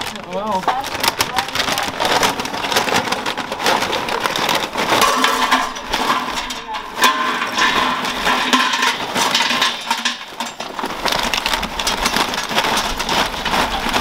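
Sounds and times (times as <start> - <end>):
charcoal clattering into metal bowl: 0.0 - 14.0.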